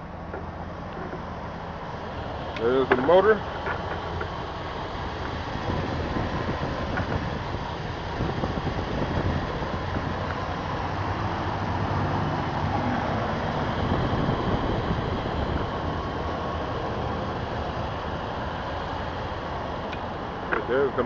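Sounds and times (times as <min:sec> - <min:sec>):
noisy hiss: 0:00.0 - 0:21.0
pickup engine idling: 0:00.0 - 0:21.0.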